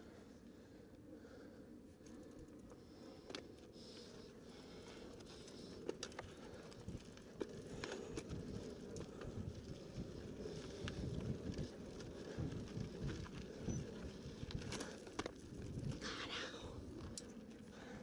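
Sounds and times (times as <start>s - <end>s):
bike tyres rumbling on dirt: 2.9s - 18.0s.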